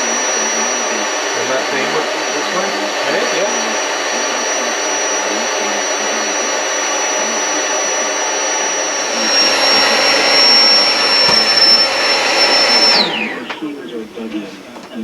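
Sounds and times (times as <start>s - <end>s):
electric air pump whining: 0.0s - 15.0s.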